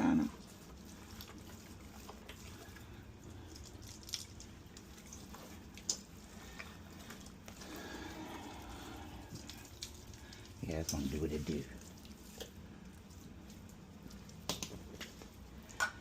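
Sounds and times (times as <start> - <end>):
hands rubbing wet meat: 0.0 - 16.0.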